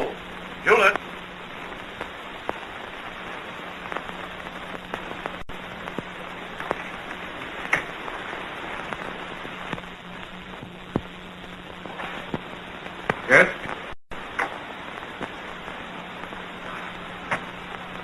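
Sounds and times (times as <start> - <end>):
crackles and pops: 0.0 - 18.0
film soundtrack hiss: 0.0 - 18.0
low hum: 0.0 - 18.0.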